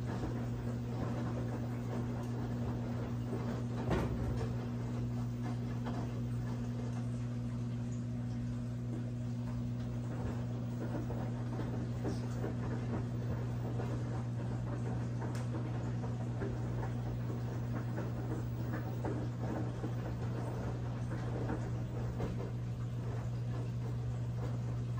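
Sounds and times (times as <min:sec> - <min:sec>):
washing machine running: 0:00.0 - 0:24.9.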